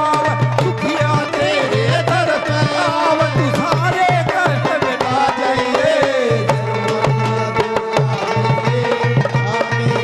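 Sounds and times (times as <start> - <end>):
dholak drumming: 0.0 - 10.0
keyboard melody: 0.0 - 10.0.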